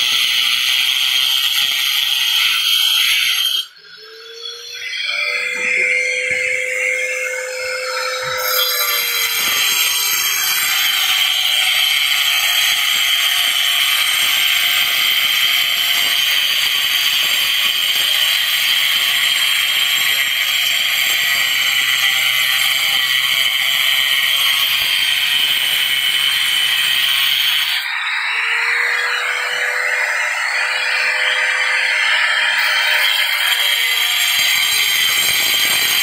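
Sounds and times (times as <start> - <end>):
angle grinder cutting tile: 0.0 - 36.0.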